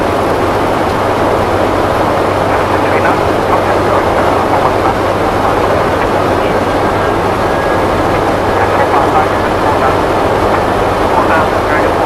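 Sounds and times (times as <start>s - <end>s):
airflow rushing: 0.0s - 12.0s
jet engine noise: 0.0s - 12.0s
low steady hum: 0.0s - 12.0s.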